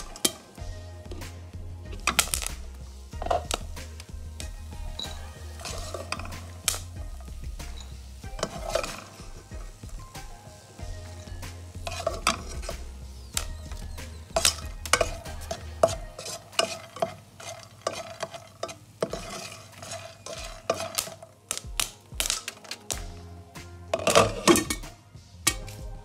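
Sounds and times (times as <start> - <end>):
spatula scraping a frying pan: 0.0 - 23.2, 23.9 - 24.8
hot oil sizzling: 0.0 - 26.0.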